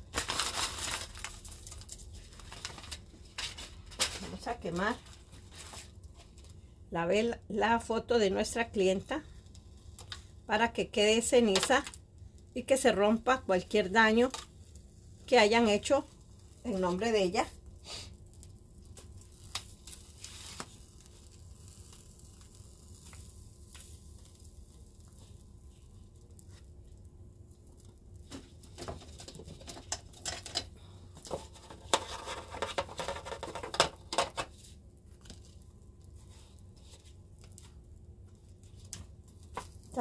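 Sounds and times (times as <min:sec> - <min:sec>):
burning paper crackling: 0:00.0 - 0:40.0.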